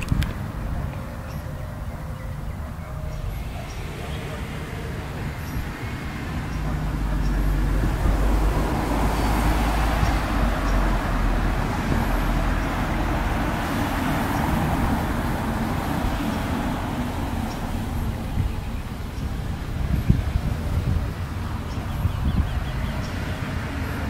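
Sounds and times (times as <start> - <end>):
road traffic rumbling: 0.0 - 24.0.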